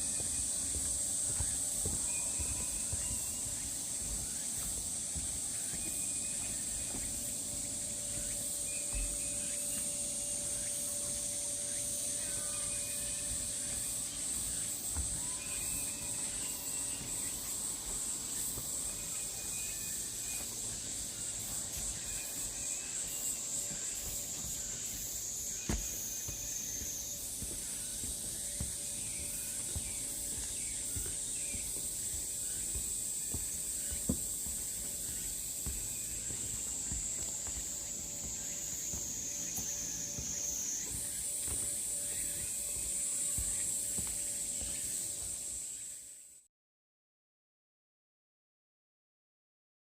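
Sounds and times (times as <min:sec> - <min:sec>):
faint bird chirps: 0:00.0 - 0:46.2
cicadas droning: 0:00.0 - 0:46.4.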